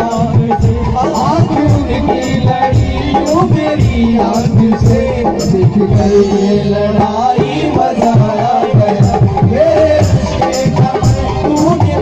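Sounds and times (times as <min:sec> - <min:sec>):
hand drum: 0:00.0 - 0:12.0
keyboard: 0:00.0 - 0:12.0
man singing: 0:00.0 - 0:12.0.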